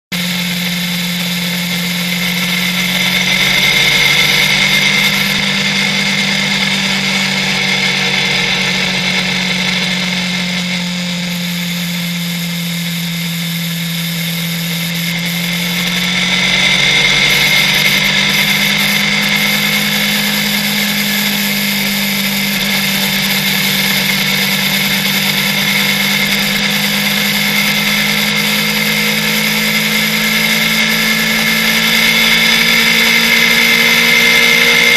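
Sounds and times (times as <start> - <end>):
motorcycle engine droning: 0.0 - 34.9
wind and road noise: 0.1 - 34.9.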